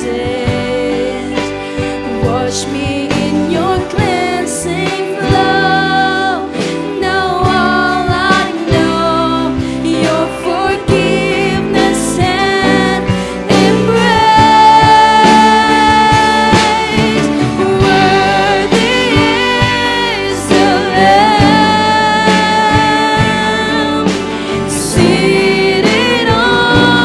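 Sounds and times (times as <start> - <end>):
drum kit: 0.0 - 27.0
electric guitars: 0.0 - 27.0
keyboard: 0.0 - 27.0
people singing together: 0.0 - 27.0.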